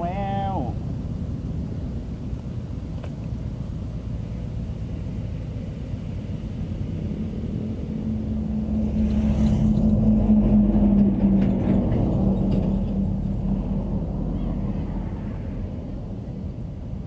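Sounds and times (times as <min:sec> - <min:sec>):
passing engine rumble: 0:00.0 - 0:17.0.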